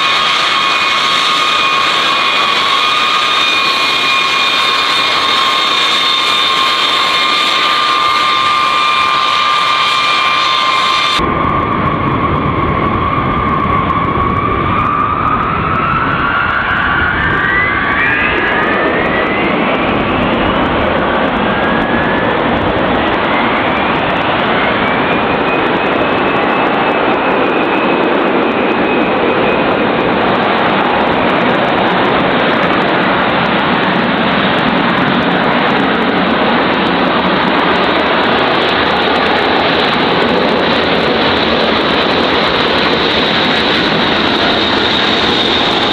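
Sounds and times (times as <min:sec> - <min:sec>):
jet engine whine rising: 0:00.0 - 0:45.9
jet engines roaring: 0:00.0 - 0:45.9.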